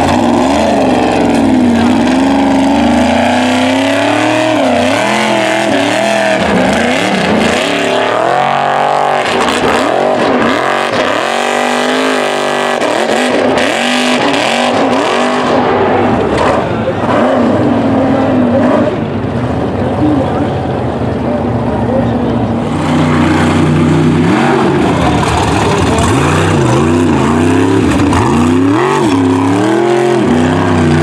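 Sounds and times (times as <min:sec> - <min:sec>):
buggy engine revving hard: 0:00.0 - 0:20.9, 0:22.4 - 0:31.0.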